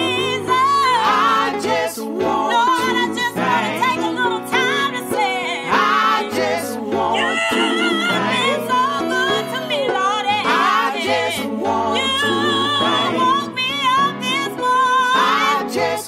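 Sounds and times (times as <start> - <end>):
gospel song with voices: 0.0 - 16.0.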